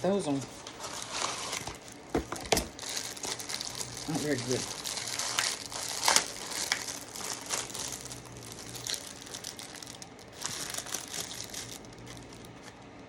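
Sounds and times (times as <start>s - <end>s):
plastic packaging crinkling: 0.1s - 12.9s.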